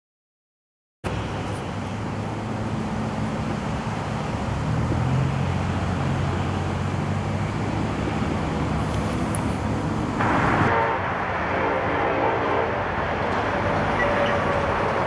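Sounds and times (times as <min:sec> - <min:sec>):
diesel locomotives rumbling: 0:01.1 - 0:15.0.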